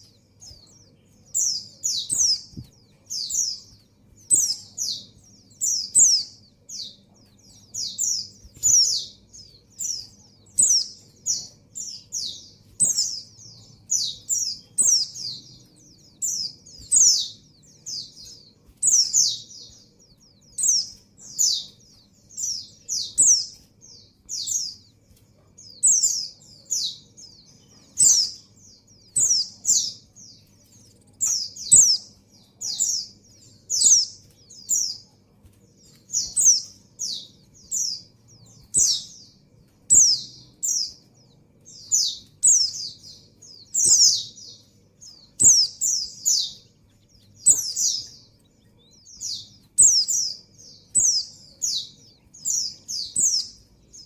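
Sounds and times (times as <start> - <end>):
high downward bird chirps: 0.0 - 54.0.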